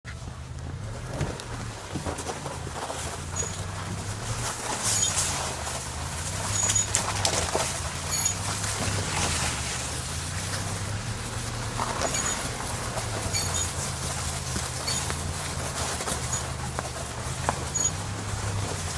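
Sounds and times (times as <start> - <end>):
car engine idling hum: 0.0 - 18.9
steering squeaking and creaking: 0.0 - 18.9.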